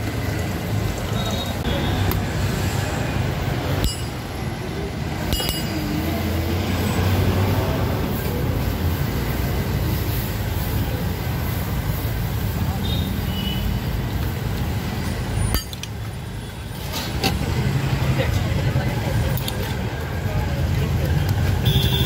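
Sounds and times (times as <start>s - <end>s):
busy street food stall rumble: 0.0s - 22.0s.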